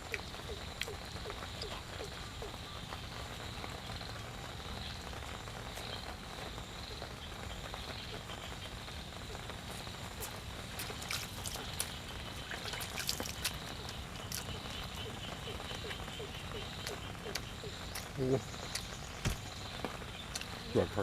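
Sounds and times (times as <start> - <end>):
frogs calling: 0.0 - 21.0.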